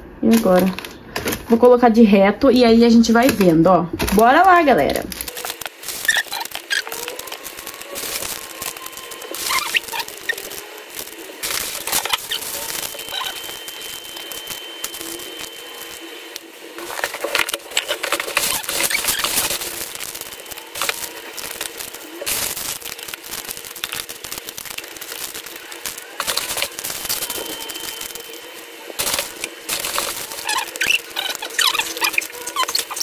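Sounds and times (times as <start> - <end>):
plastic bags crinkling: 3.1 - 33.0.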